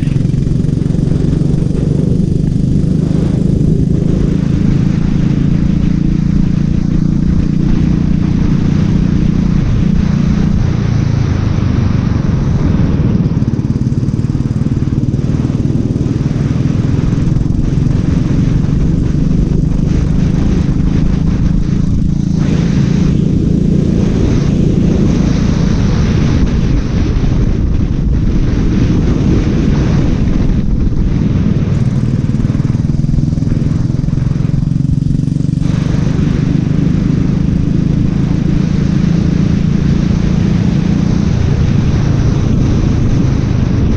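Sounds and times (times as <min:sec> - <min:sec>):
kart engine running: 0:00.0 - 0:43.9.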